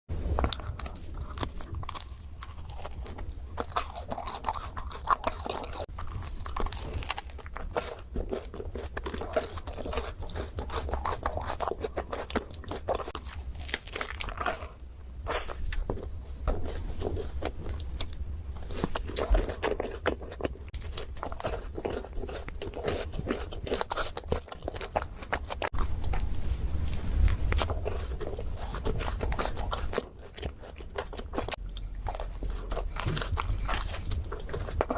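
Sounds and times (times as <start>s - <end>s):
chewing: 0.2s - 34.9s
crisp crunches of bites: 0.2s - 34.9s.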